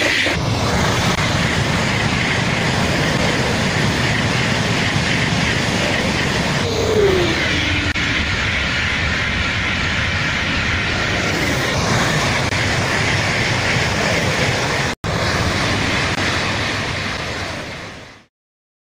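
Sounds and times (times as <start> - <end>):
high-speed train passing: 0.0 - 18.3.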